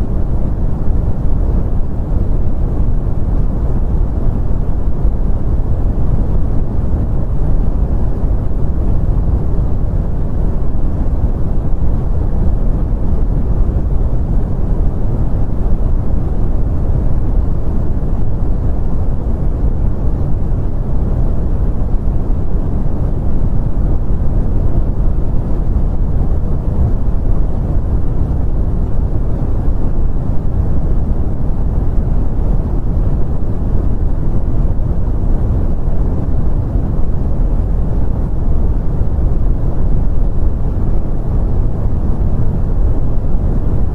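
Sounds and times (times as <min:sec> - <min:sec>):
brown noise: 0:00.0 - 0:43.9.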